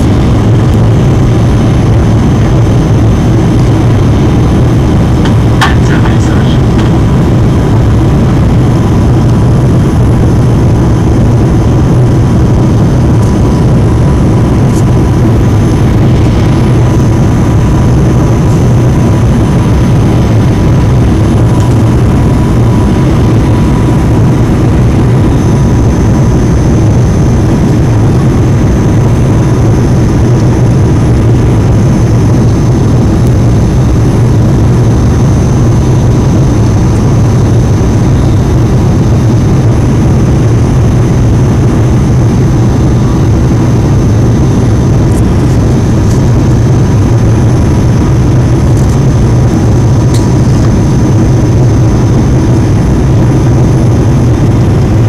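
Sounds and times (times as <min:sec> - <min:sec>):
jet engines droning: 0:00.0 - 0:55.0
thin steady whine: 0:00.0 - 0:55.0.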